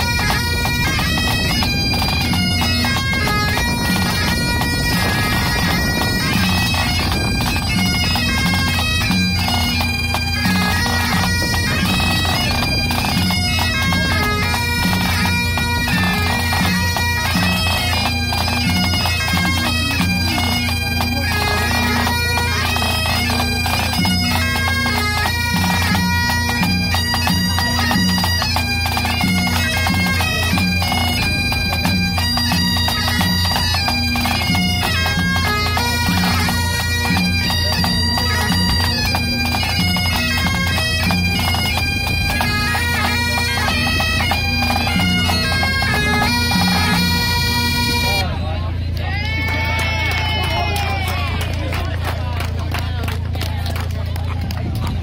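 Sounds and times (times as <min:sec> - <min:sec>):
tenor drum: 0:00.0 - 0:48.2
bagpipes playing: 0:00.0 - 0:48.8.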